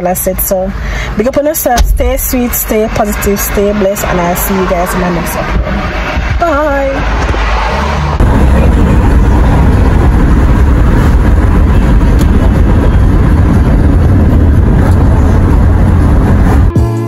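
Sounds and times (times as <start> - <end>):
car wind and road noise: 0.0 - 17.0
wind buffeting microphone: 1.2 - 16.7.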